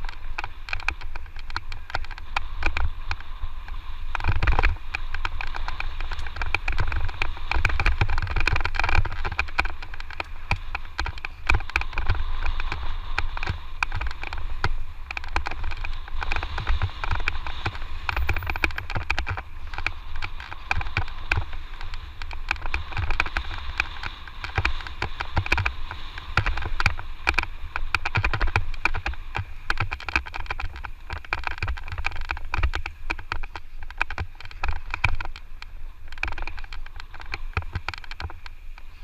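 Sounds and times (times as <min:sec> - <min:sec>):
bike rattling over rough ground: 0:00.0 - 0:39.0
wind rumbling on microphone: 0:00.0 - 0:39.0.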